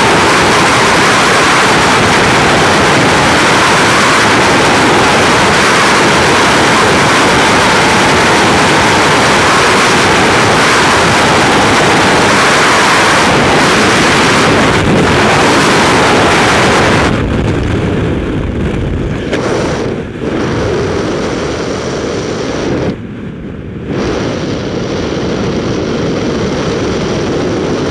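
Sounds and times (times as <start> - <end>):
wind rushing over microphone: 0.0 - 27.9.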